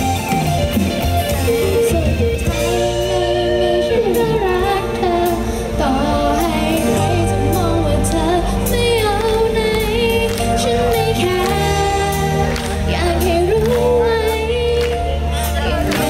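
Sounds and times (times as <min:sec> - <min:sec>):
live pop band playing: 0:00.0 - 0:16.0
woman singing into a microphone: 0:01.8 - 0:16.0.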